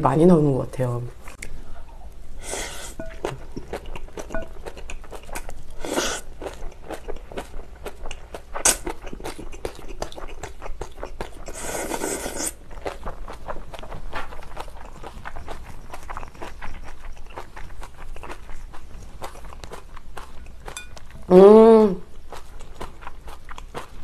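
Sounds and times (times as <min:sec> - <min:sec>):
crunchy chewing mouth sounds: 0:01.2 - 0:24.0.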